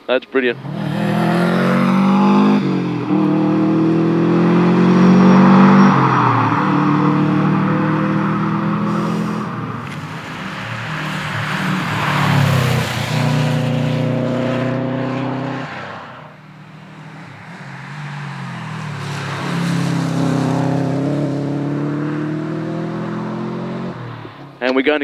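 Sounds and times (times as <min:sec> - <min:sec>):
rally car engine accelerating hard: 0:00.5 - 0:24.2.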